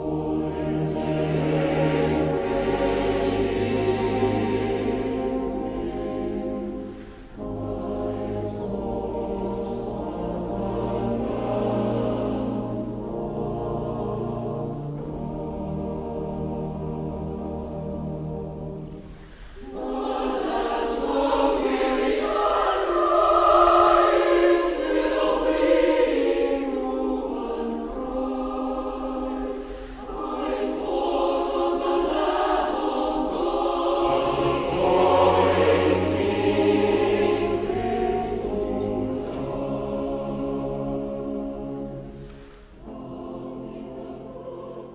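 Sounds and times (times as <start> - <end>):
choir singing slow chords: 0.0 - 44.9.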